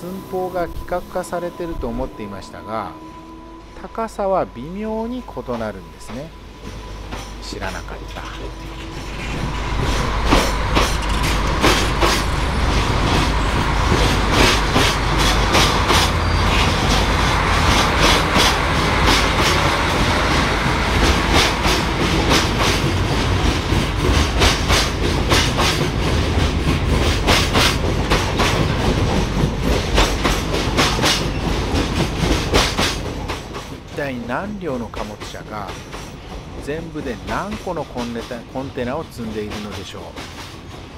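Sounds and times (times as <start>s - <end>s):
train wheels clacking over rail joints: 6.6s - 34.0s, 34.7s - 40.9s.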